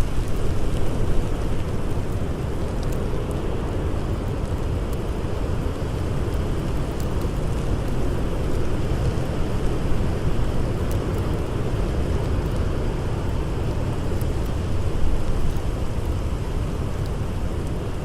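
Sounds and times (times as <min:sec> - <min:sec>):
campfire crackles: 0:00.0 - 0:18.0.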